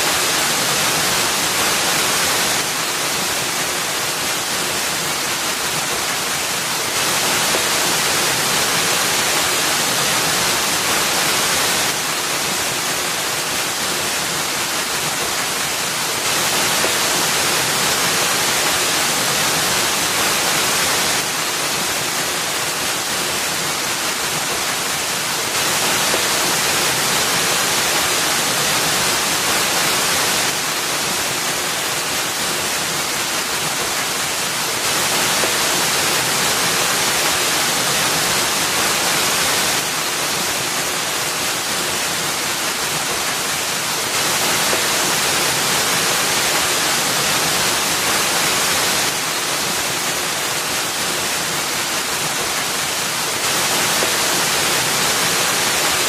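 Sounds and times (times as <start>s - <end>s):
waterfall pouring into pool: 0.0s - 56.0s.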